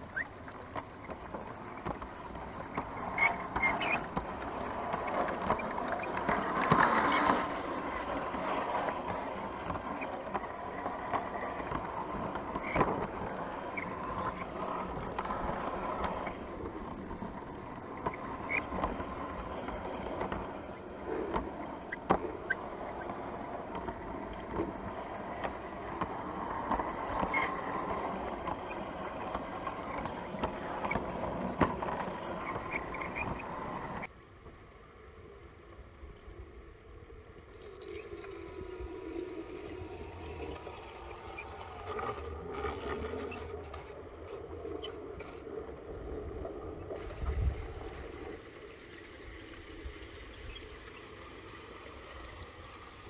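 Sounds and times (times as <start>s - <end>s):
model train wheels rumbling: 0.0s - 34.1s, 37.5s - 53.0s.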